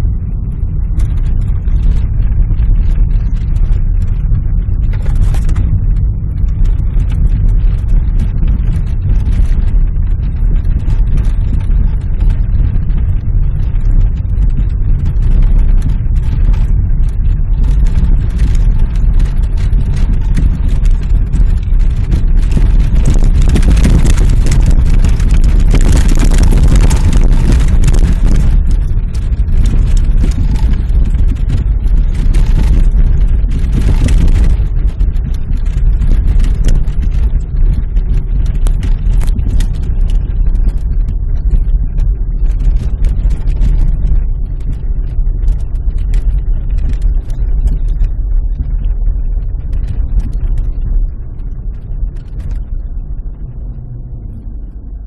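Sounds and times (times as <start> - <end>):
engine and tyres rumbling on snow: 0.0 - 55.0.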